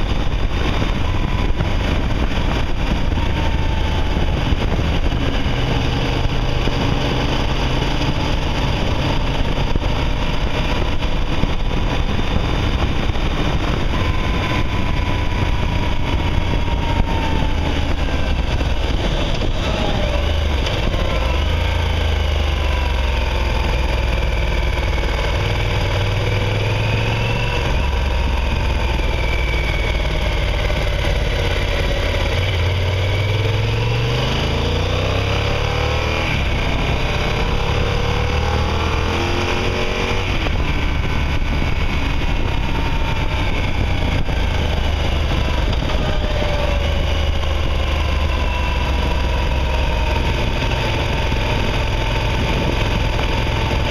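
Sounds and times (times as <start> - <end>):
motorcycle engine accelerating: 0.0 - 53.9
wind and road noise: 0.0 - 53.9.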